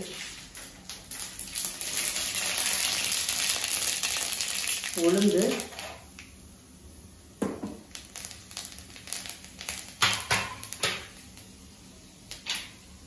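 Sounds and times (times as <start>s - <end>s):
seeds spluttering in hot oil: 0.0s - 6.4s, 7.8s - 12.9s.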